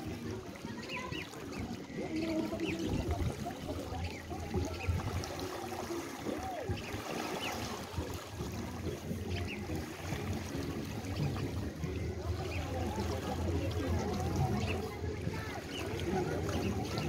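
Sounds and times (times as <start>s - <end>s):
small waves lapping over pebbles: 0.0s - 17.0s.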